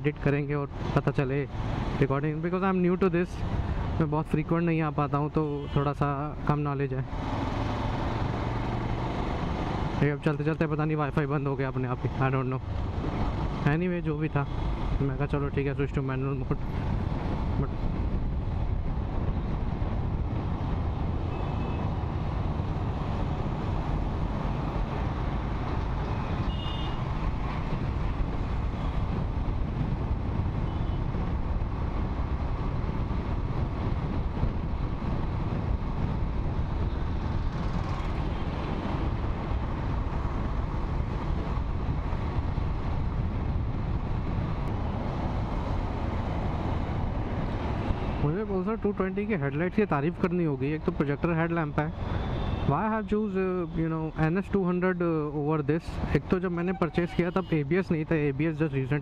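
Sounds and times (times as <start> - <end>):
motorcycle engine and wind rush: 0.0 - 59.0.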